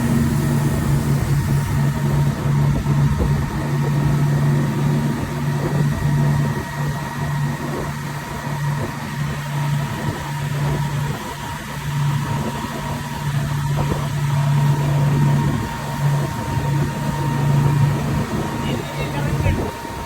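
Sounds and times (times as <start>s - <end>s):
speedboat engine humming: 0.0s - 20.0s.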